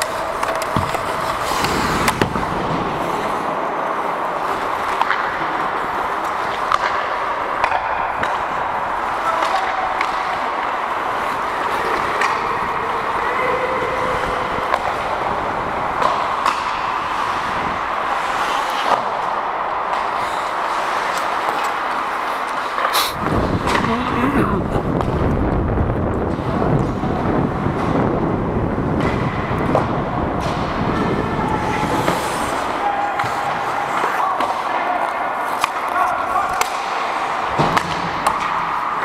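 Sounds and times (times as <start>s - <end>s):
hockey stick and puck clacks: 0.0s - 3.4s, 4.4s - 12.8s, 14.6s - 24.2s, 26.2s - 39.0s
skates scraping on ice: 0.0s - 25.3s, 26.3s - 39.0s.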